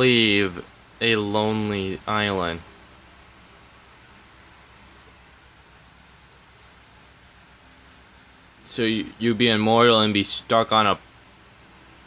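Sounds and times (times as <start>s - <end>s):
faint hiss and low hum: 0.0s - 12.0s.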